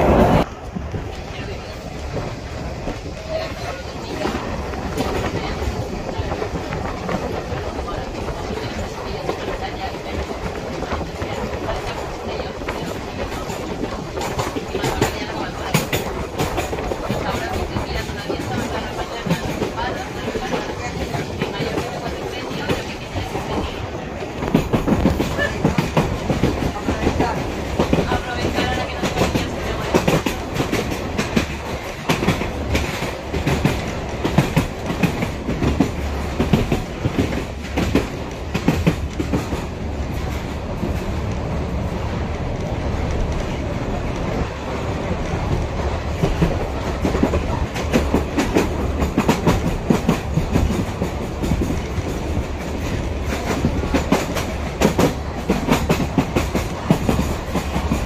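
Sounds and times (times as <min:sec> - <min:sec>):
carriages rattling: 0:00.0 - 0:58.0
wooden train rumbling on track: 0:00.0 - 0:58.0.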